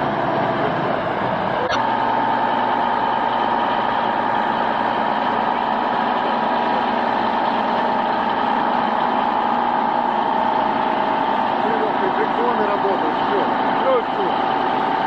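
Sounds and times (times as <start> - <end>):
constant whine: 0.0 - 15.0
heavy vehicle engine under load: 0.0 - 15.0.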